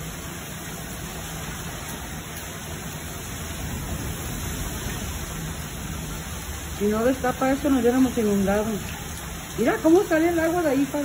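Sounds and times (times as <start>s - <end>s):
heavy rain on paving: 0.0s - 11.0s.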